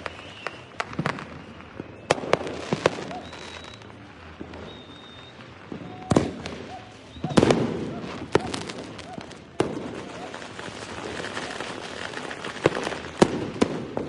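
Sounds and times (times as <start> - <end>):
firework whistles: 0.0 - 14.0
fireworks bangs and cracks: 0.0 - 14.0.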